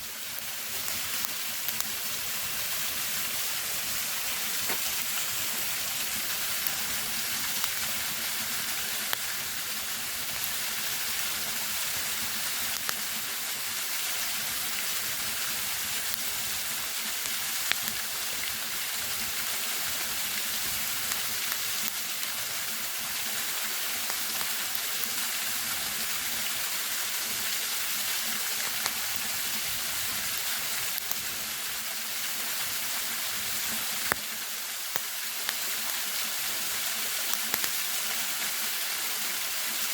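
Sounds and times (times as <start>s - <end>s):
campfire pops and crackles: 0.1s - 38.6s.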